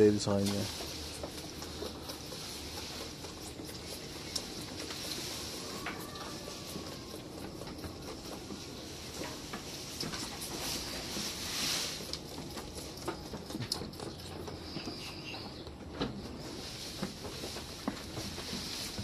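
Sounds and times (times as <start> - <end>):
goat kid sucking bottle: 0.2 - 19.0.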